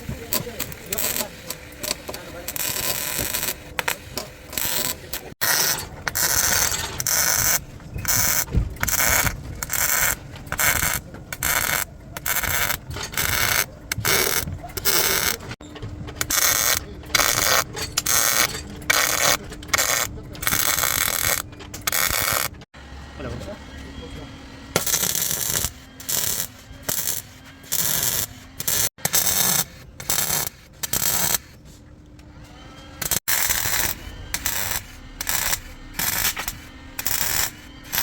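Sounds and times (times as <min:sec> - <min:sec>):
hand tool rasping: 0:00.6 - 0:15.5, 0:16.3 - 0:22.6, 0:24.8 - 0:31.5, 0:33.0 - 0:38.0.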